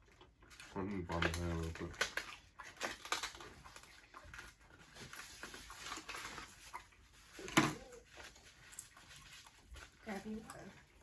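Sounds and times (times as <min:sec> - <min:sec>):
food packaging rustling: 0:00.1 - 0:11.0.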